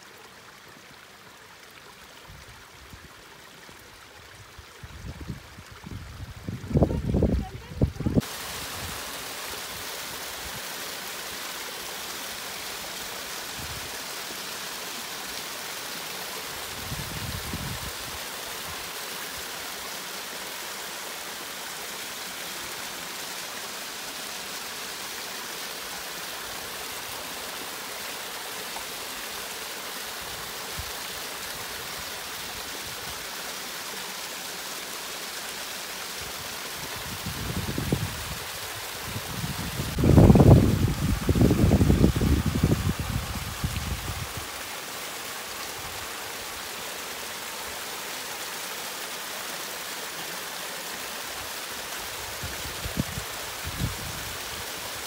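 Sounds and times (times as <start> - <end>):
water cascading over rocks: 0.0 - 55.0.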